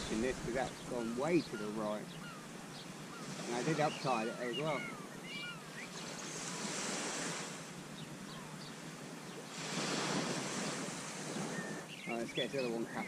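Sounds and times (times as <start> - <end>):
small waves washing on sand: 0.0 - 13.0.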